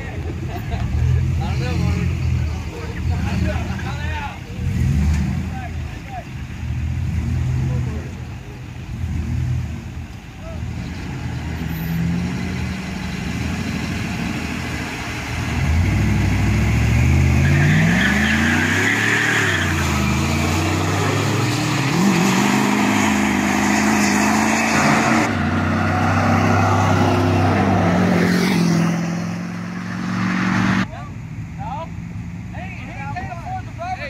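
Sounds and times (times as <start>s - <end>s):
car engine accelerating: 0.0s - 32.6s.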